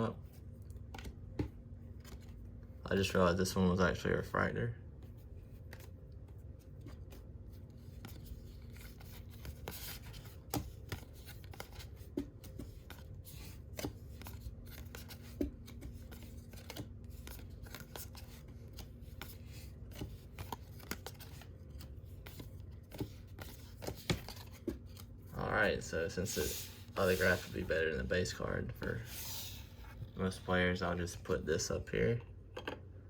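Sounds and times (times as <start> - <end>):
faint steady hum: 0.0 - 33.0
cards rustling and tapping: 0.3 - 3.1, 5.0 - 30.5.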